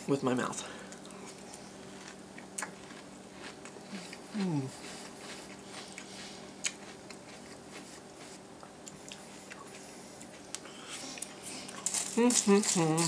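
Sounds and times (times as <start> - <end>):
person chewing crunchy cereal: 0.9 - 13.0.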